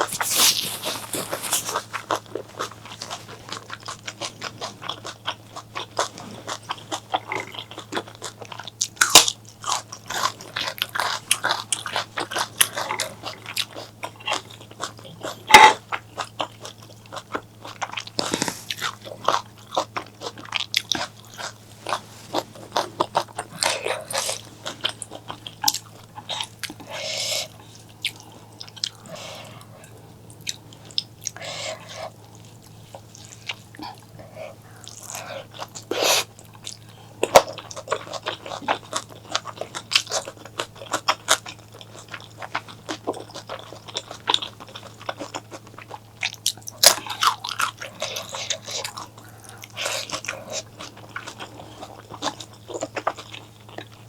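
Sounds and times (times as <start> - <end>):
faint low hum: 0.0 - 54.0
person chewing crunchy food: 0.0 - 54.0.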